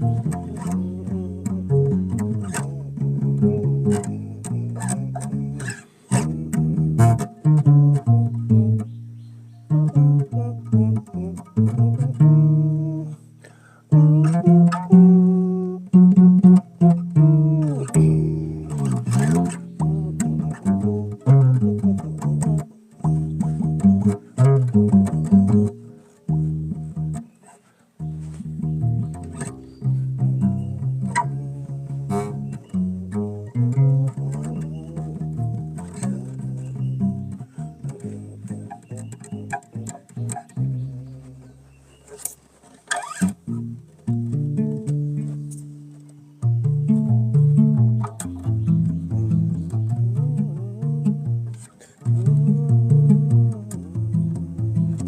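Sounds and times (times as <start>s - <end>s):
plucked bass notes: 0.0s - 55.0s.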